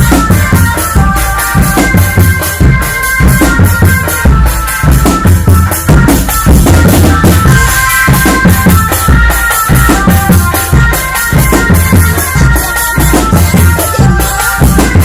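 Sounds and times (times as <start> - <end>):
high held melody line: 0.0 - 15.0
rapid drum strokes: 0.0 - 15.0.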